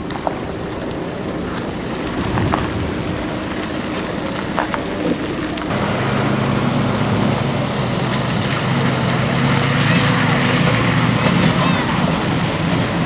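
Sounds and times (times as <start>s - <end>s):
deep engine hum: 0.0s - 13.0s
motor engine running: 0.2s - 13.0s
rush of wind or water: 0.4s - 13.0s.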